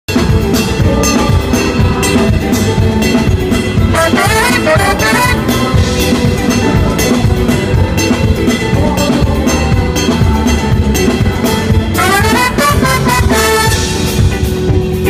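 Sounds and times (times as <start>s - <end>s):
live latin jazz band: 0.1s - 15.0s.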